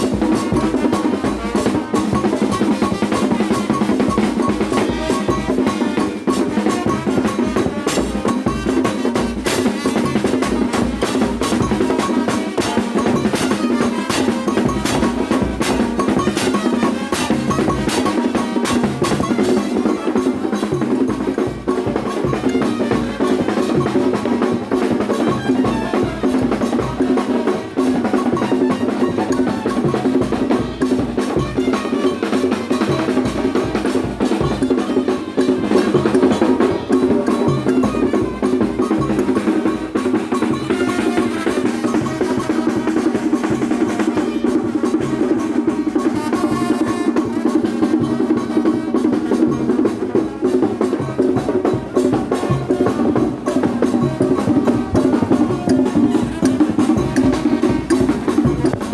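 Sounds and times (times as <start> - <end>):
fast steady drumming: 0.0 - 58.9.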